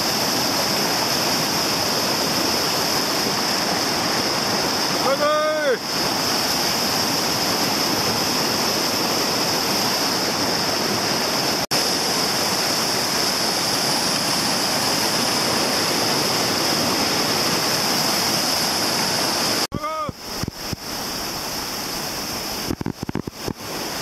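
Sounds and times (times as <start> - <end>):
whitewater rapid roaring: 0.0 - 24.0.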